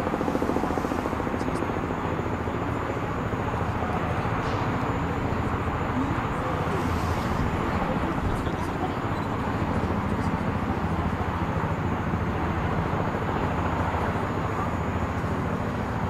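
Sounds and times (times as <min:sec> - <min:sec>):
propfan engines droning: 0:00.0 - 0:16.0.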